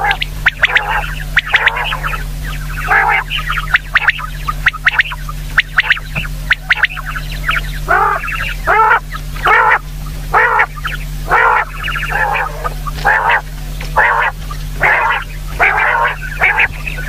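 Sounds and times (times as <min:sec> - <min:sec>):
low electrical hum: 0:00.0 - 0:17.0
quail calling: 0:00.0 - 0:17.0.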